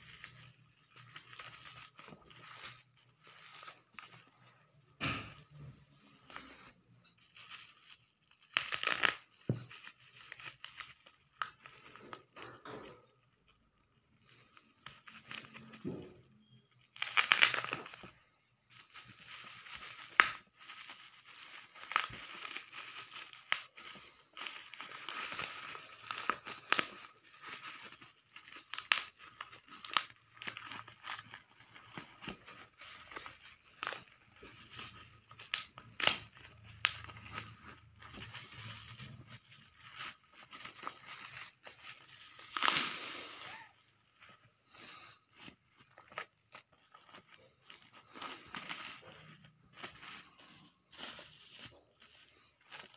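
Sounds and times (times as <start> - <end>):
bubble wrap crinkling and crackling: 0.0 - 52.9.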